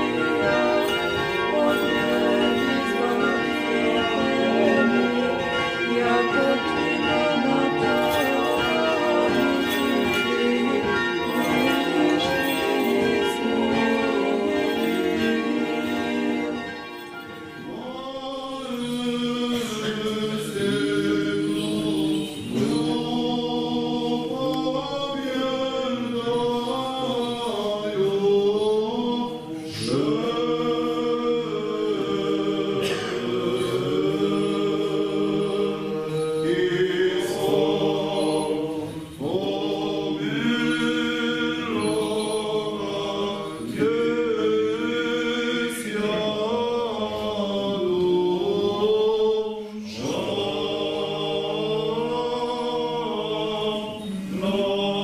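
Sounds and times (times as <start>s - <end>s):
choir chanting a cappella: 0.0s - 55.0s.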